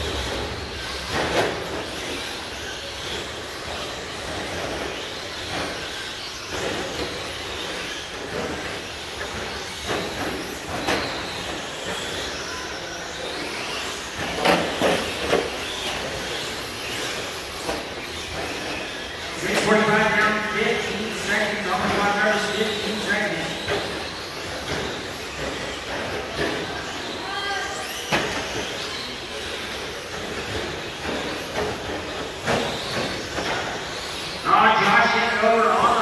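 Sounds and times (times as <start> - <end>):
rc truck motor and tyre noise: 0.0 - 36.0.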